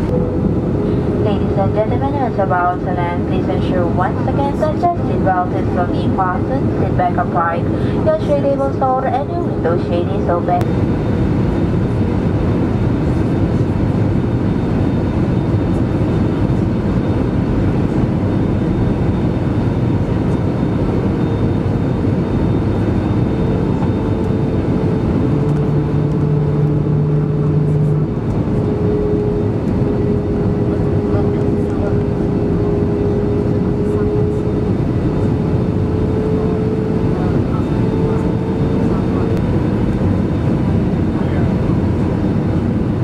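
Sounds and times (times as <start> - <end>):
steady hum: 0.0 - 13.7, 15.2 - 43.0
low hum: 0.0 - 41.5
airplane engine roar: 0.0 - 43.0.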